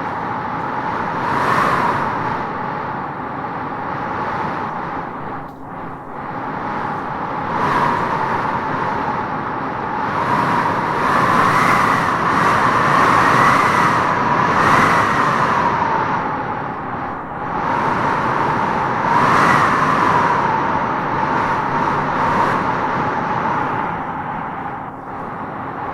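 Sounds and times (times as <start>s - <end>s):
howling wind gusting: 0.0s - 25.9s.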